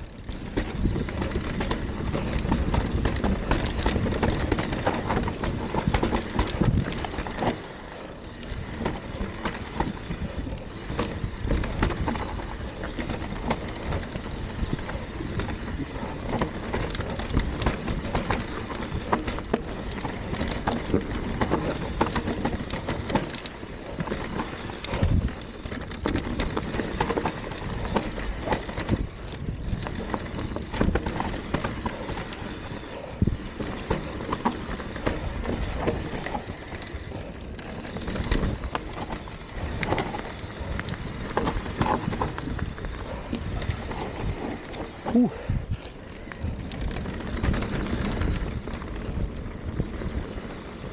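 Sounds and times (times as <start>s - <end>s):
bike knocking and rattling: 0.0s - 50.9s
bike tyres on dirt and stones: 0.0s - 50.9s.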